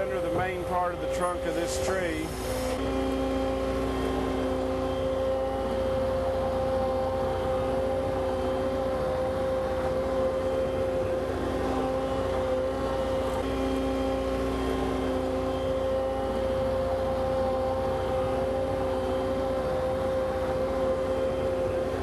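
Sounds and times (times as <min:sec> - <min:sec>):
skid steer engine whining: 0:00.0 - 0:22.0.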